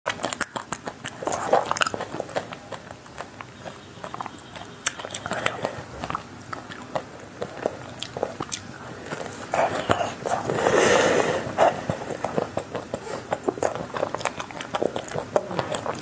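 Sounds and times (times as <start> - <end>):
crunchy ice cream bar chewing: 0.1 - 16.0.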